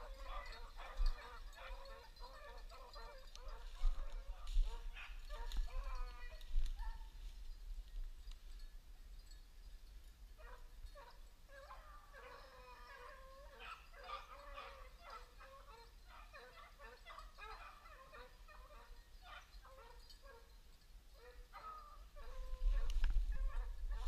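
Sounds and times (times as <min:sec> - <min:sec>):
dogs yelping: 0:00.0 - 0:07.1, 0:10.4 - 0:20.6, 0:21.2 - 0:24.0
beagles baying: 0:00.0 - 0:07.3, 0:10.4 - 0:24.0.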